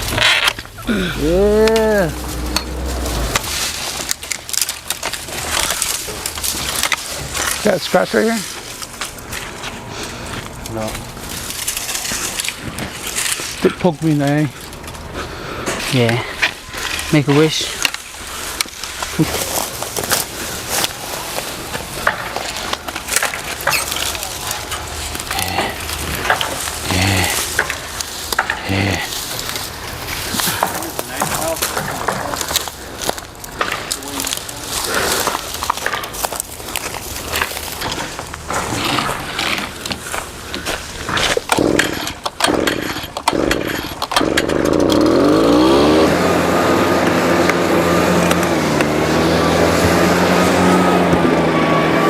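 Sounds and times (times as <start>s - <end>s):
twigs cracking and snapping: 0.0s - 15.1s, 15.8s - 46.0s
leaves rustling: 0.0s - 41.8s.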